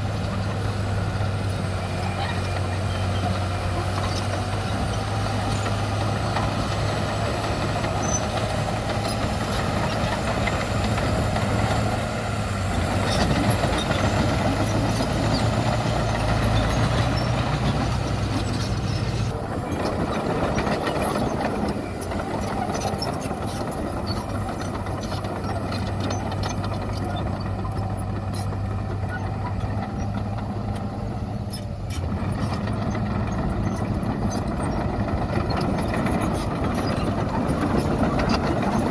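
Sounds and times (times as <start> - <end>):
heavy diesel machinery droning: 0.0 - 38.9.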